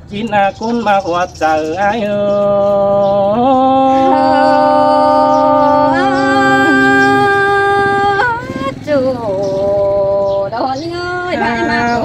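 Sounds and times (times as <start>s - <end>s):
person singing long held notes: 2.1s - 12.0s.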